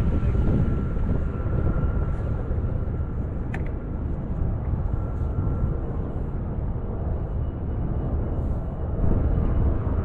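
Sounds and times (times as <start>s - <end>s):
faint steady whine: 0.0s - 10.0s
wind buffeting microphone: 0.0s - 10.0s.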